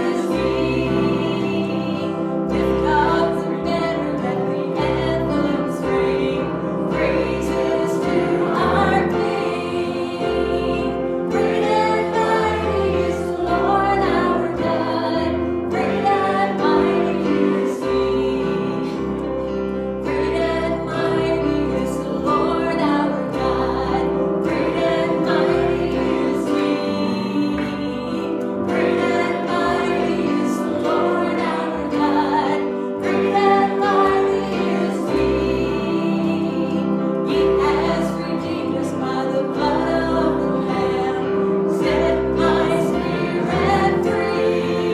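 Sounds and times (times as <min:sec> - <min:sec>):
instrumental accompaniment: 0:00.0 - 0:44.9
voices singing a hymn: 0:00.0 - 0:44.9.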